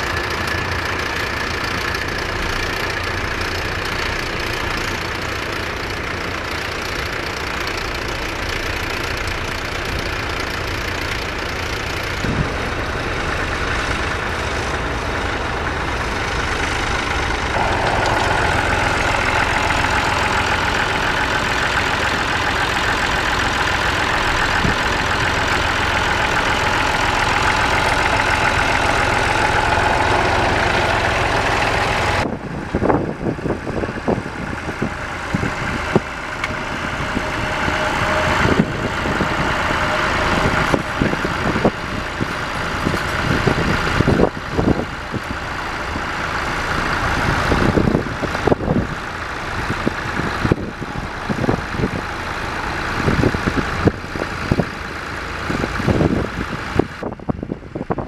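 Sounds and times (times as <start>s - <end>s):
nearby tractor engine: 0.0s - 58.0s
tractor engines running: 0.0s - 58.0s.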